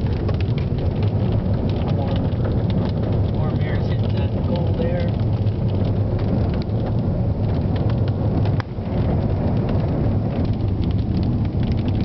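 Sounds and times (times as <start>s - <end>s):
car road and engine rumble: 0.0s - 12.0s
raindrops ticking on windshield: 0.0s - 12.0s.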